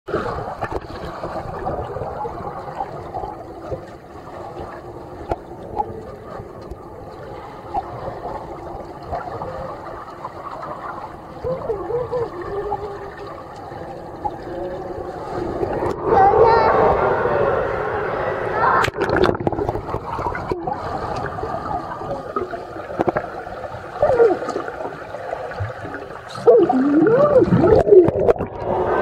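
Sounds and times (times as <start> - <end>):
underwater bubbling: 0.1 - 29.0
underwater rush of water: 0.1 - 29.0.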